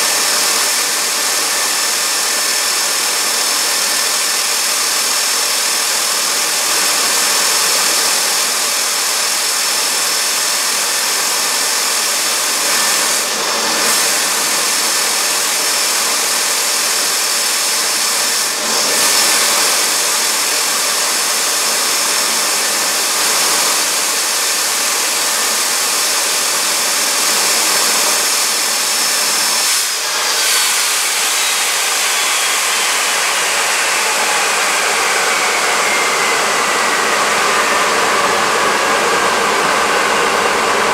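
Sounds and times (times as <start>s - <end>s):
turbojet engine roaring and whining: 0.0s - 40.9s.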